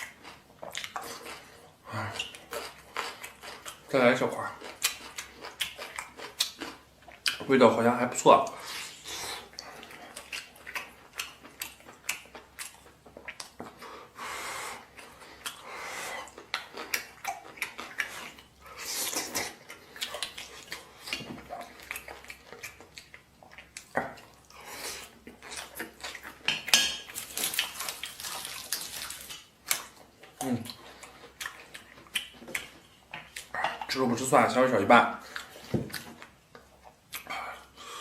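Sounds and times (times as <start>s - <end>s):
person chewing: 0.0s - 7.5s, 8.4s - 34.0s, 35.2s - 38.0s.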